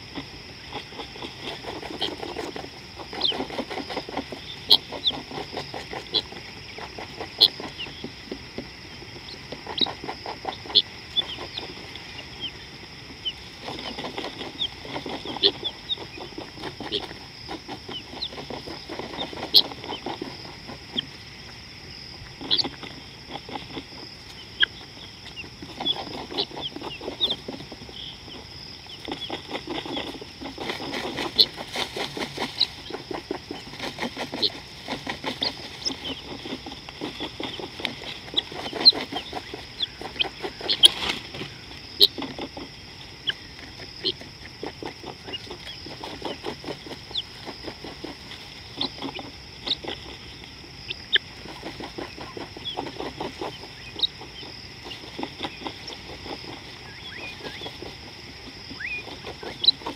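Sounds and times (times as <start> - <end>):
high insect drone: 0.0 - 59.9
rapid low pulsed animal calls: 0.0 - 59.9.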